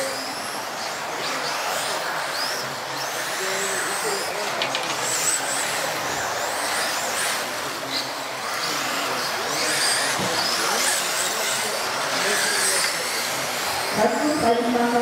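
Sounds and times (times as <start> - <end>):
electric motors whining: 0.0 - 15.0
steady noisy background: 0.0 - 15.0.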